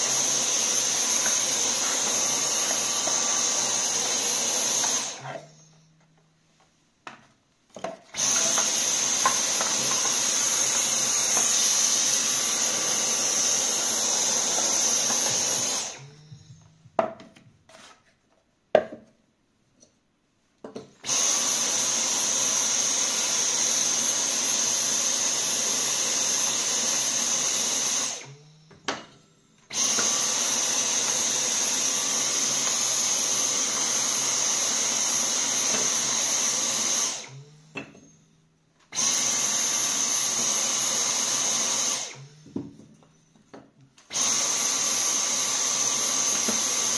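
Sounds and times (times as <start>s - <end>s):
handheld vacuum cleaner whining: 0.0s - 6.2s, 7.7s - 18.0s, 20.8s - 46.9s.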